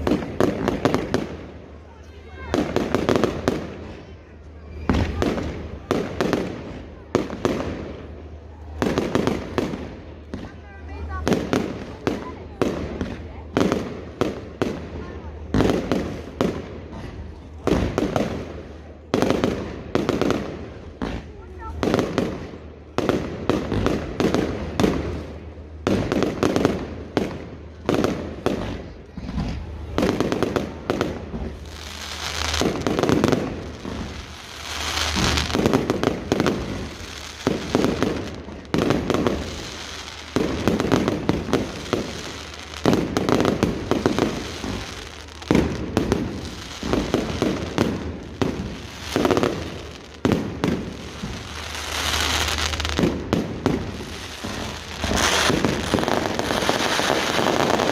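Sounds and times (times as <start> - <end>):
fireworks bangs and crackles: 0.0 - 57.9
fireworks rushing: 0.0 - 57.9.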